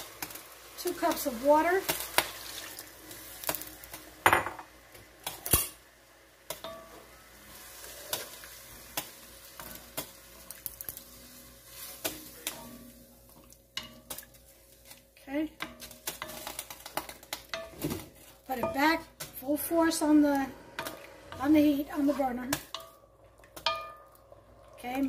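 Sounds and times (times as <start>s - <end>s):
low sizzle: 0.0s - 25.0s.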